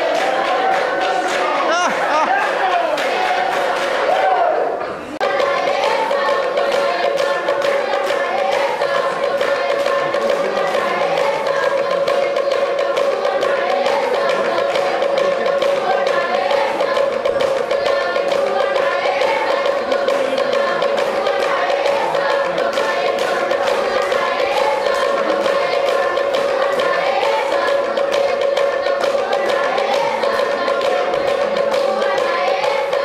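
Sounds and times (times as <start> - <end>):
group singing: 0.0 - 33.0
percussion beat: 0.0 - 33.0.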